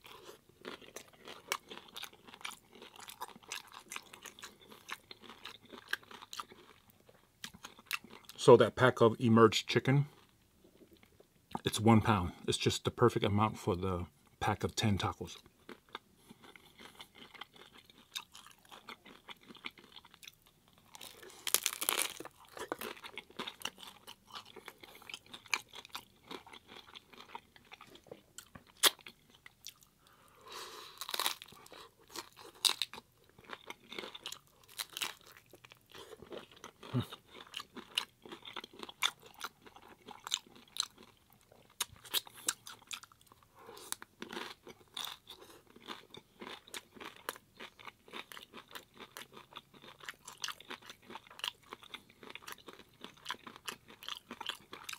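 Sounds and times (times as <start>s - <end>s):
chewing: 0.0s - 8.4s, 15.3s - 54.9s
taco shells crunching: 0.0s - 8.4s, 15.2s - 30.1s, 30.8s - 54.9s.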